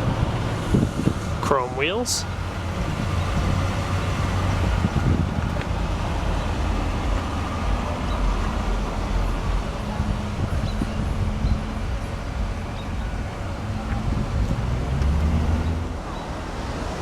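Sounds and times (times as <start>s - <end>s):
car engine idling: 0.0s - 15.2s
outdoor noise: 0.0s - 17.0s.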